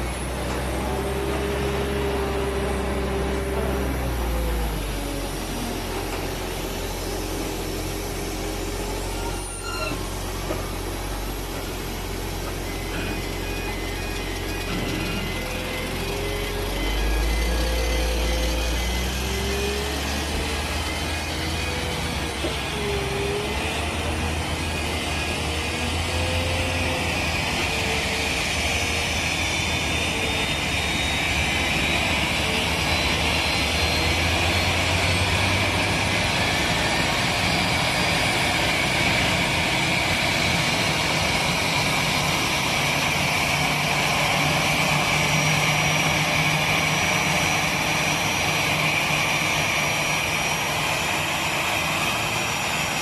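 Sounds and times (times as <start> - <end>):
jet engine whine and rush: 0.0 - 53.0.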